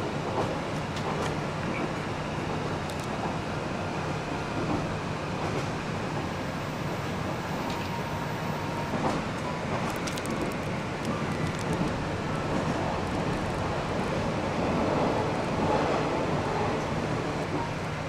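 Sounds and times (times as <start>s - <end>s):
railcar running hum and rumble: 0.0s - 18.0s.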